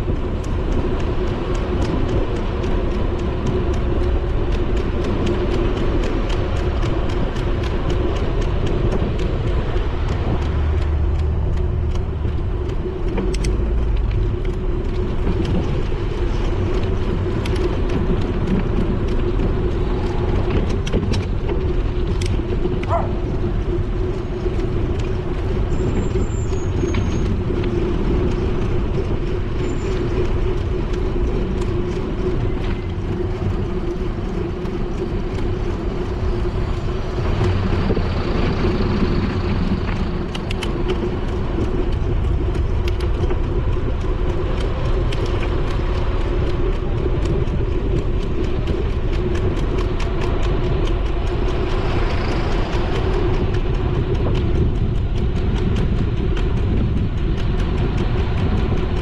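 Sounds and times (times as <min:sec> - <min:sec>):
bicycle road noise hum: 0:00.0 - 0:59.0
cars and bus passing: 0:00.0 - 0:59.0
clicks from bumps: 0:00.0 - 0:59.0
wind rumbling on microphone: 0:00.0 - 0:59.0.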